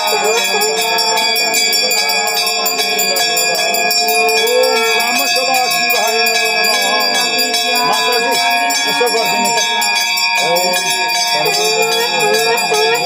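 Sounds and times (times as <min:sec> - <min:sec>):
bells ringing: 0:00.0 - 0:13.0
people's voices: 0:00.0 - 0:13.0.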